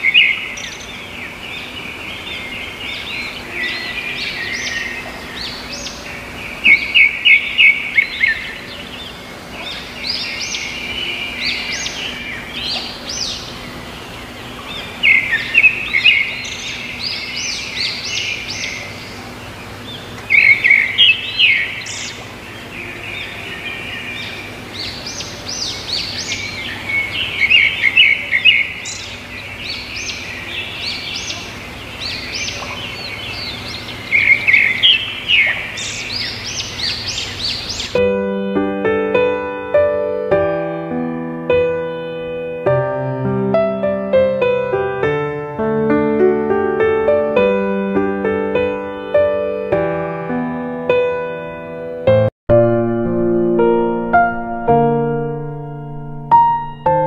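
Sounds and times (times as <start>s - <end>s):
songbirds chirping and trilling: 0.0s - 42.8s, 43.5s - 51.6s
steady background hiss: 0.0s - 50.4s.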